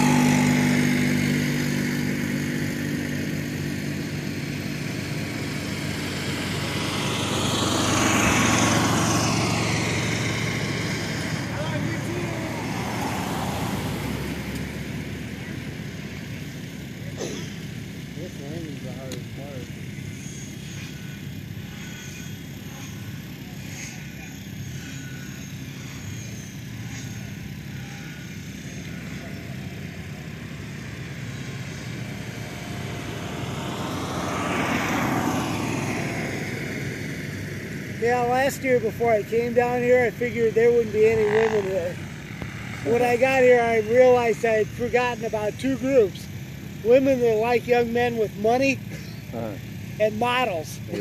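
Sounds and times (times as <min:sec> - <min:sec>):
model helicopter rotor and motor: 0:00.0 - 0:51.0.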